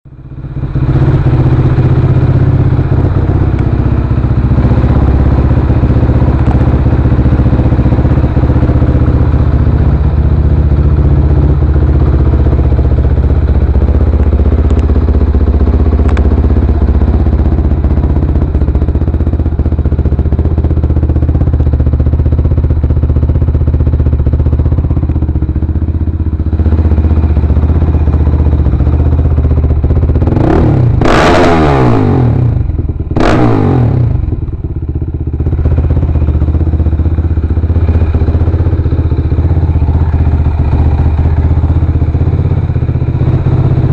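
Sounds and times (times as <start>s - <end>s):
quad engine idling: 0.1s - 43.9s.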